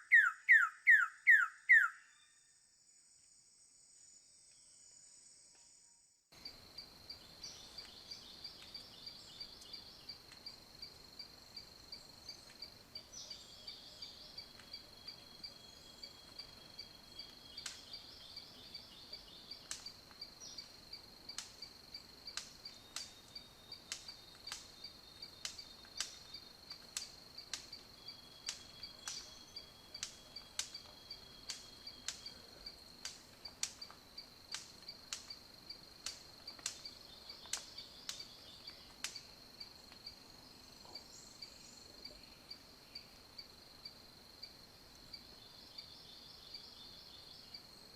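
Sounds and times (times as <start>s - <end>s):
crickets chirring: 6.3s - 47.9s.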